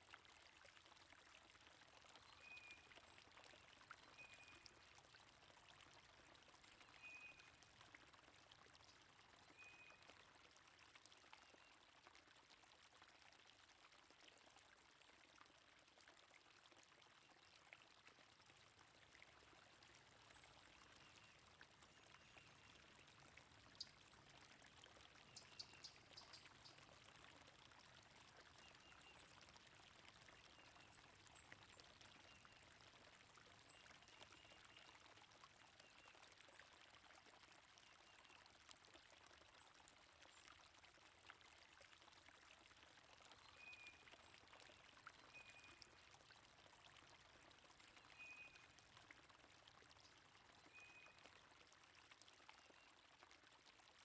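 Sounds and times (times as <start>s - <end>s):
faint stream water flowing: 0.0s - 54.0s.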